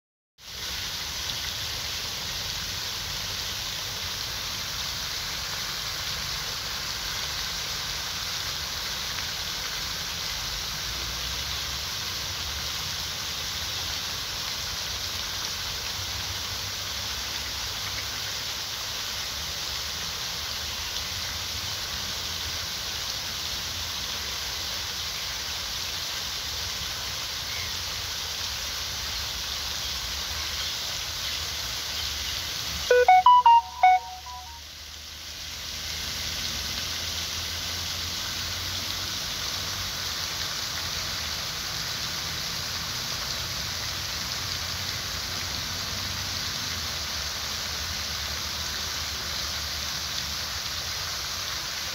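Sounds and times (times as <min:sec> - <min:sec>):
water splashing into pond: 0:00.4 - 0:51.9.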